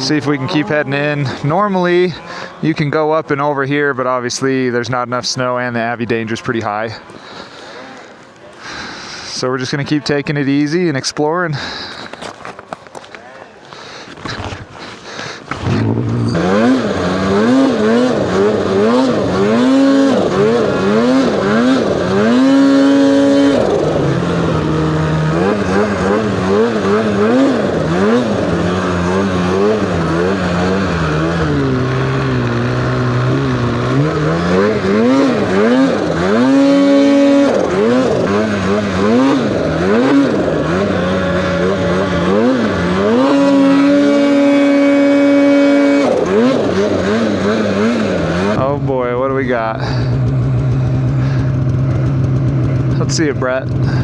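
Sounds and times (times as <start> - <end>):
snowmobile engine revving: 0.0 - 12.6, 13.6 - 54.0.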